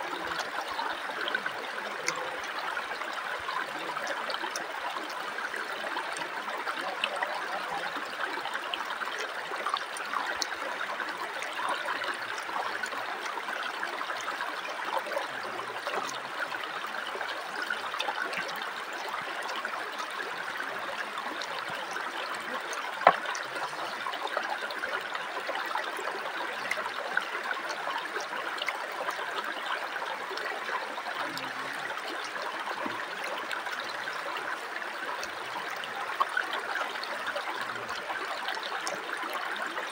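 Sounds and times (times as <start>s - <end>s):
water babbling over rocks: 0.0s - 39.9s.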